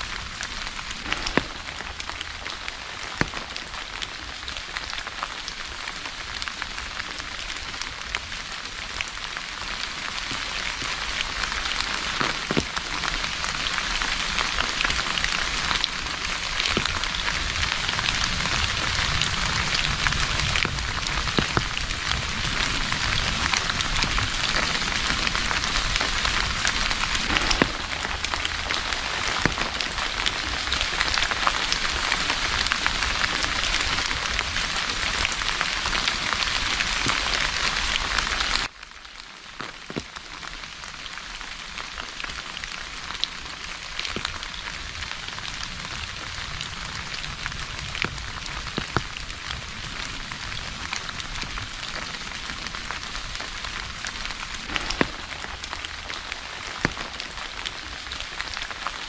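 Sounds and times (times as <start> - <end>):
rain falling on water: 0.0 - 59.0.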